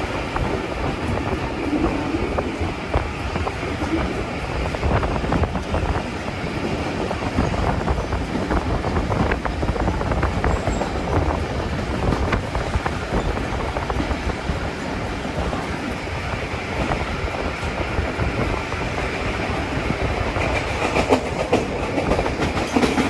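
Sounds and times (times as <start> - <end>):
train rumbling on track: 0.0 - 23.0
wheels clicking on rails: 0.0 - 23.0.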